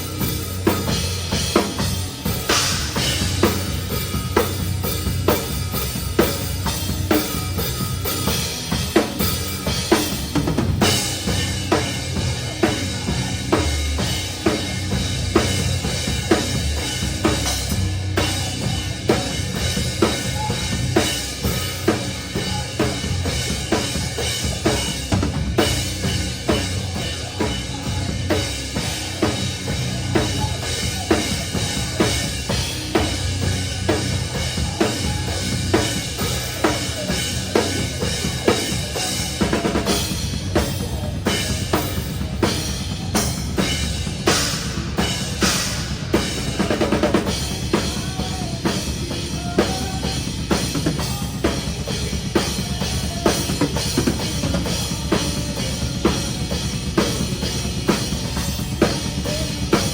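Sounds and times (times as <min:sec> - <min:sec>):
drum kit hits: 0:00.0 - 0:59.9
metalcore band playing: 0:00.0 - 0:59.9.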